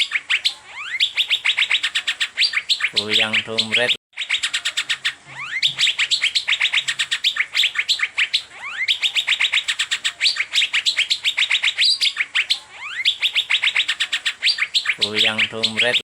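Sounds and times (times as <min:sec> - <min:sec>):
bird chirping rapidly: 0:00.0 - 0:16.0
bird upward-sweeping whistles: 0:00.0 - 0:16.0.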